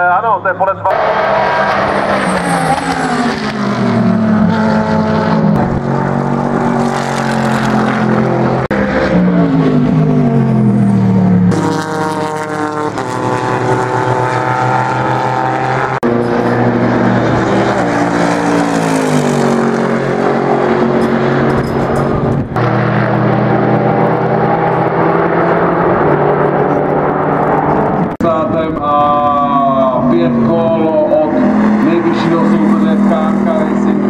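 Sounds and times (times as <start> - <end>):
race car engine passing at speed: 0.9 - 34.0.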